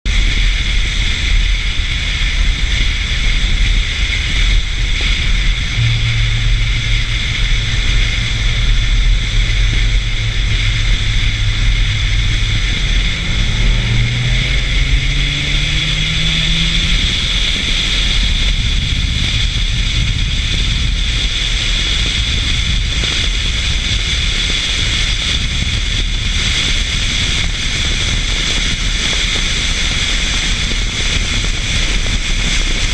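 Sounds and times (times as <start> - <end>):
wind and road noise: 0.0 - 32.9
car engine accelerating hard: 0.1 - 32.9.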